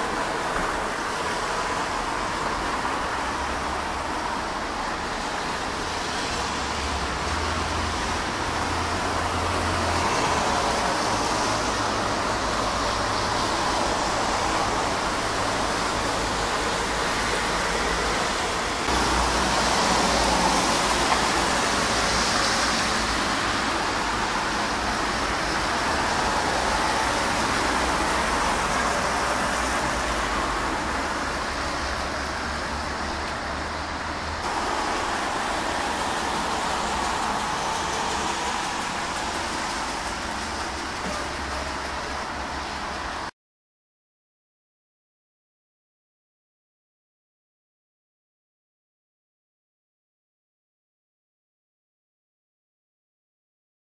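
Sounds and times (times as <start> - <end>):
distant road traffic: 0.0 - 43.3.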